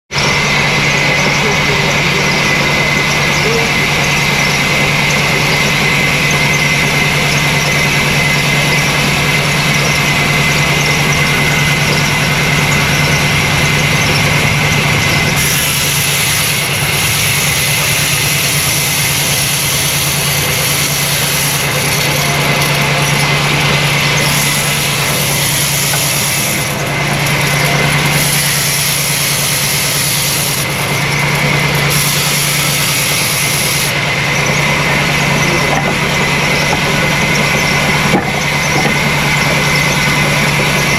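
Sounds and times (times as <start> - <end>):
sawmill machinery humming and whining: 0.1 - 40.9.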